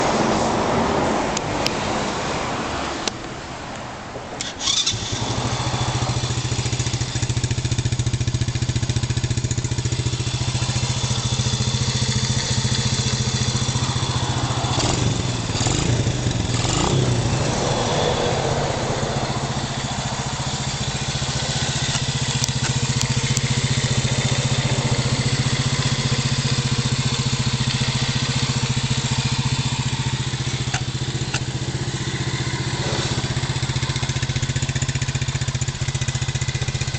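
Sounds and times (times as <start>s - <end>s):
small engine starting and idling: 4.4s - 36.9s.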